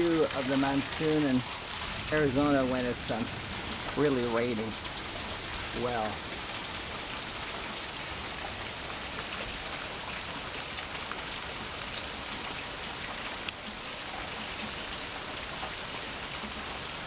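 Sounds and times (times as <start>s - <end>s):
heavy rain hissing: 0.0s - 17.0s
raindrops ticking: 0.0s - 17.0s.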